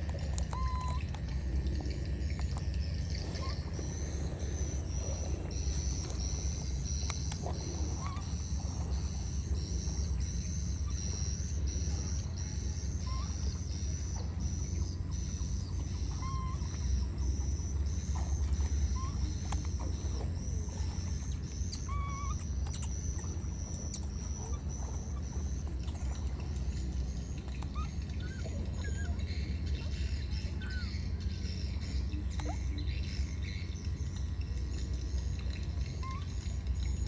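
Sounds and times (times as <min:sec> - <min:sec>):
pulsing high chirring: 0:00.0 - 0:37.0
steady low rumble: 0:00.0 - 0:37.0.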